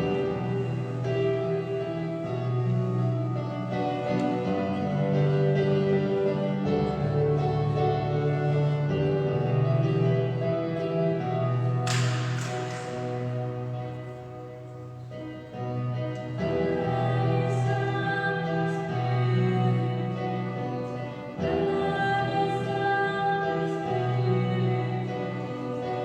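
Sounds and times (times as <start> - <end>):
choir singing: 0.0 - 14.2, 16.2 - 26.0.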